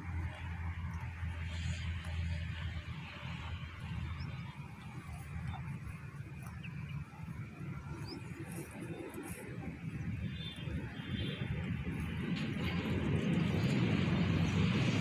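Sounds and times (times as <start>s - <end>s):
cow chewing grass: 0.0s - 15.0s
low uneven rumble: 0.0s - 15.0s.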